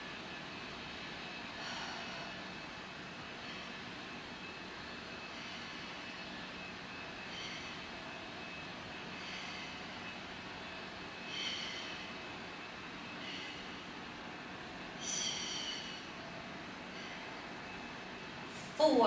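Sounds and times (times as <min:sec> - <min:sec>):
room noise hiss and hum: 0:00.0 - 0:19.0
soft breaths: 0:01.2 - 0:18.9.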